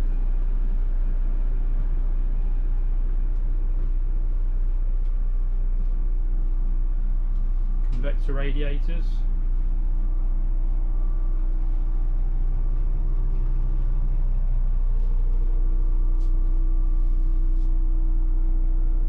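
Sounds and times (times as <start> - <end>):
diesel coach engine drone: 0.0 - 19.0.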